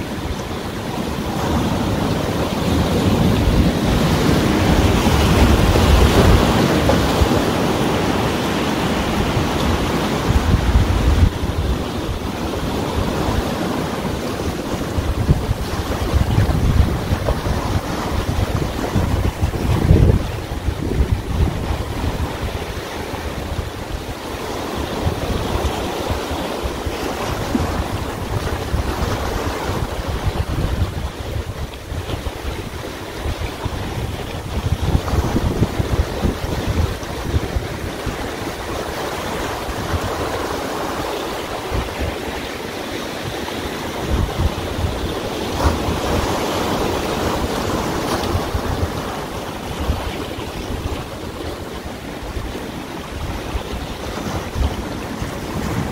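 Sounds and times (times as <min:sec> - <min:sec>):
waves breaking against rocks: 0:00.0 - 0:55.9
wind buffeting microphone: 0:00.0 - 0:55.9.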